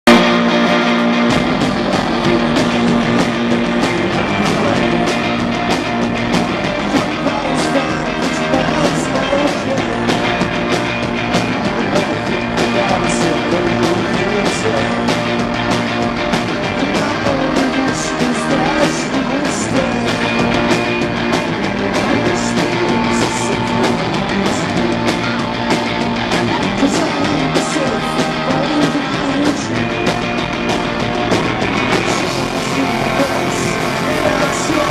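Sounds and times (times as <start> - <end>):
distorted electric guitars: 0.0 - 34.9
drums: 0.0 - 34.9
live rock band playing: 0.0 - 34.9.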